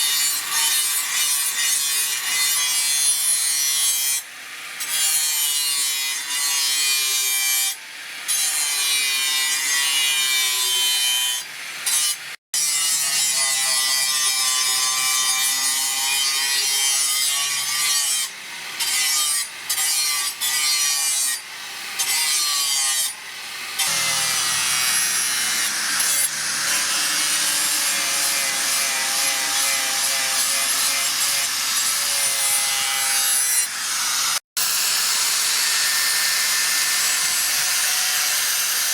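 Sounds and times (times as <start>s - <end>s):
power grinder grinding steel: 0.0s - 38.9s.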